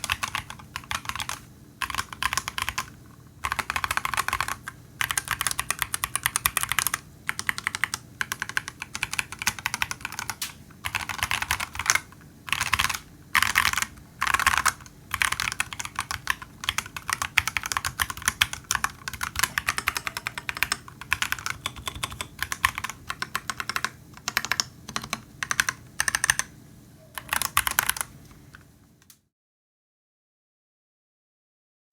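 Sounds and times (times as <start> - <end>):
mechanical keyboard typing: 0.0 - 26.6, 27.2 - 28.2.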